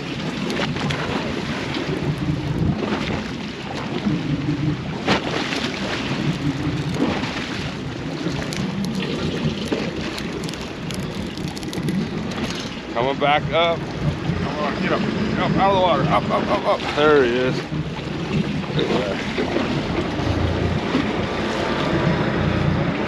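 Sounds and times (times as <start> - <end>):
boat engine rumbling: 0.0 - 23.0
wind buffeting microphone: 0.0 - 23.0.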